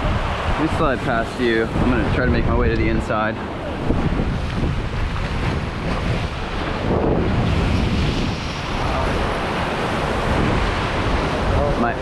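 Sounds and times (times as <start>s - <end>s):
sea surf washing: 0.0s - 12.0s
wind buffeting microphone: 0.0s - 12.0s.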